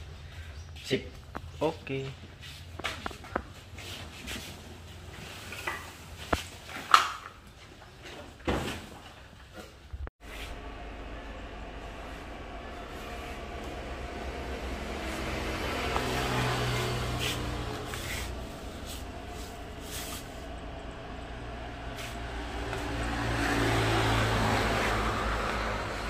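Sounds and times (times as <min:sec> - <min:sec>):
vehicles passing by: 0:00.0 - 0:07.8, 0:10.2 - 0:26.0.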